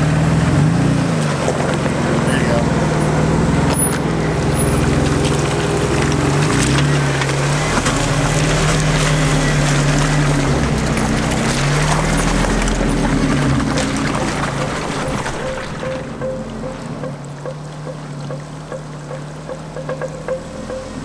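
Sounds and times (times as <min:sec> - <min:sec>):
engine pulling under load: 0:00.0 - 0:21.0
tyres churning through mud: 0:00.0 - 0:21.0.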